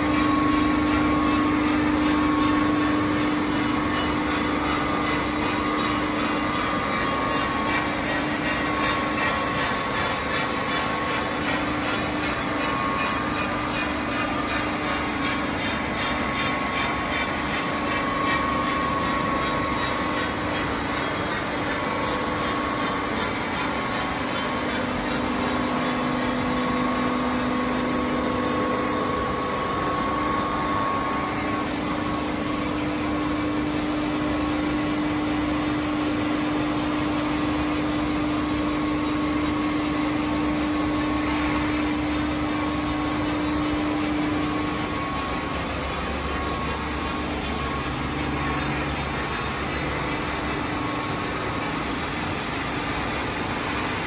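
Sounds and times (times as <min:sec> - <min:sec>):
grinding wheel hissing on steel: 0:00.0 - 0:54.0
motor hum: 0:00.0 - 0:54.0.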